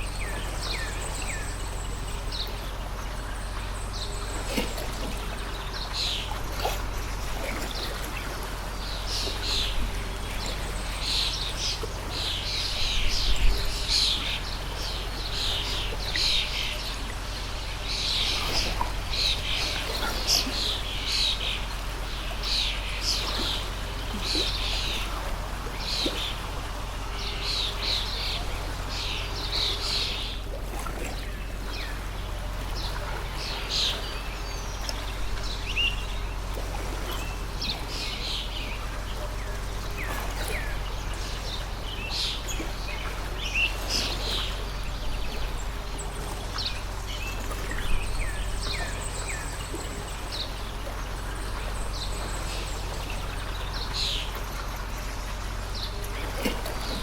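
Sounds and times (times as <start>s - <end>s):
small birds chirping: 0.0s - 57.0s
water stream rushing: 0.0s - 57.0s.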